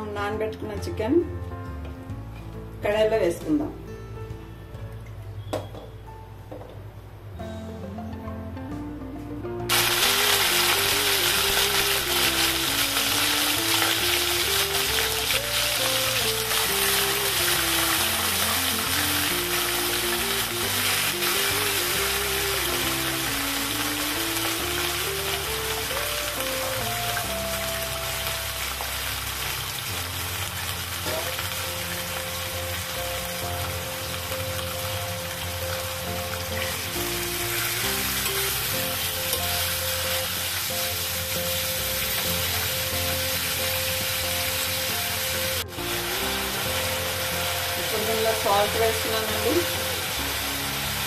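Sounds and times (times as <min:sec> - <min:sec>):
slow ballad music: 0:00.0 - 0:51.0
chicken sizzling in hot oil: 0:09.7 - 0:51.0.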